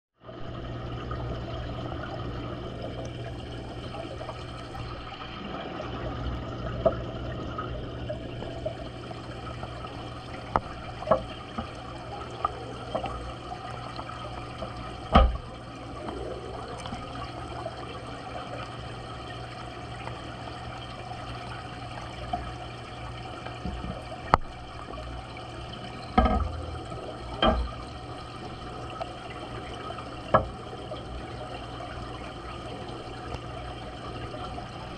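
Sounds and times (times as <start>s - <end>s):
aquarium water bubbling: 0.2s - 34.9s
low pump hum: 0.2s - 34.9s.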